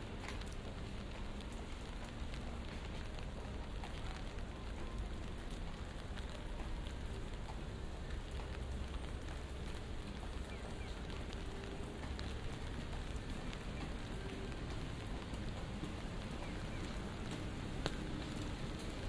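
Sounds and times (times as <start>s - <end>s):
light rain on pavement: 0.0s - 19.0s.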